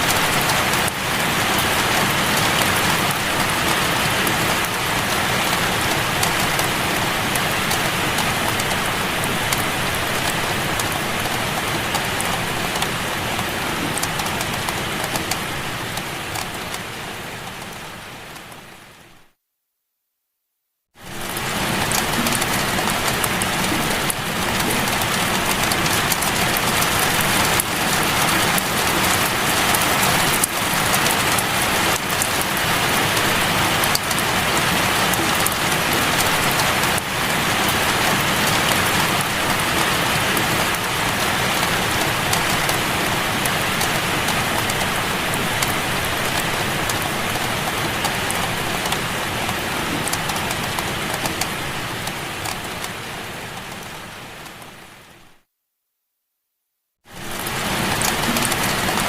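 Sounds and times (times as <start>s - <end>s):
heavy rain falling: 0.0s - 19.2s, 21.0s - 55.4s, 57.1s - 59.0s.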